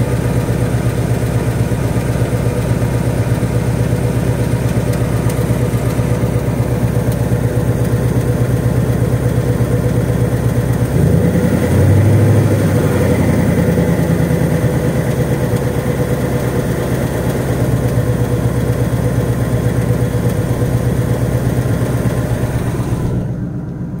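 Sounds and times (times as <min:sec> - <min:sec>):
car engine idling: 0:00.0 - 0:24.0
fast light engine ticking: 0:00.0 - 0:24.0.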